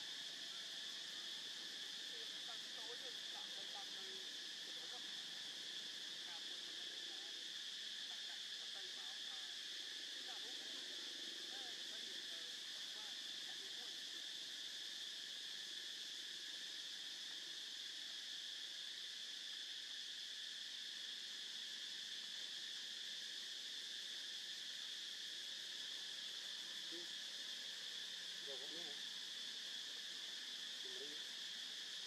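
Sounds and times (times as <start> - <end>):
forest insects buzzing: 0.0 - 32.0.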